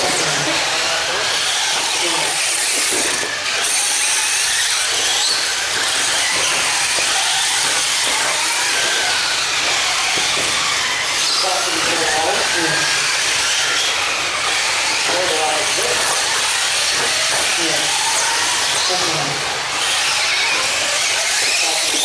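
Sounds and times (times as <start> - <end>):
rc car motors whining: 0.0 - 22.0.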